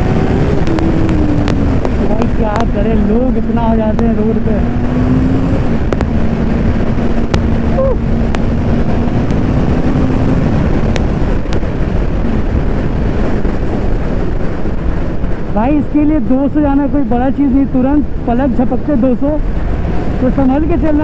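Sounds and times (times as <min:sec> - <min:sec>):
wind rush on microphone: 0:00.0 - 0:21.0.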